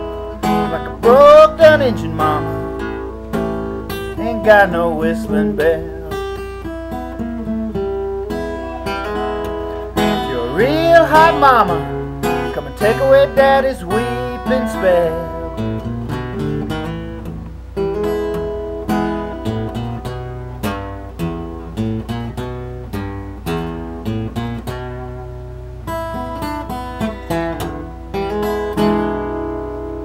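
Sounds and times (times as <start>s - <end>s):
fingerpicked acoustic guitar: 0.0s - 30.0s.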